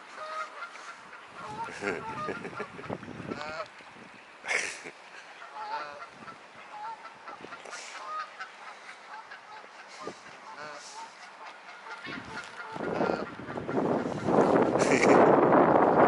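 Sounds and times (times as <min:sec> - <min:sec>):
water birds calling: 0:00.0 - 0:16.0.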